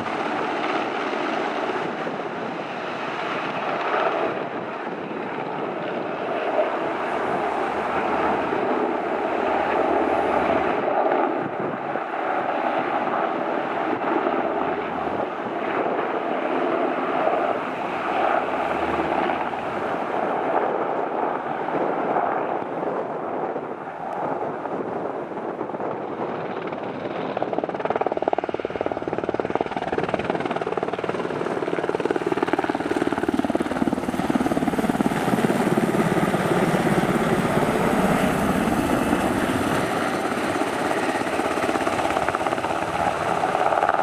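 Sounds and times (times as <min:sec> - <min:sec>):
distant helicopter rotor and turbines: 0:00.0 - 0:44.0.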